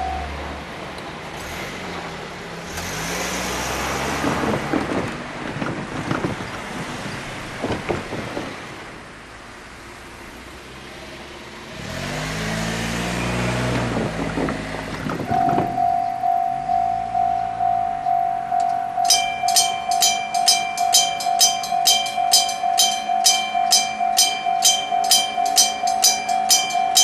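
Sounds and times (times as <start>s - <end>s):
engine pulling away: 0.0s - 27.0s
vehicle engines running: 0.0s - 27.0s.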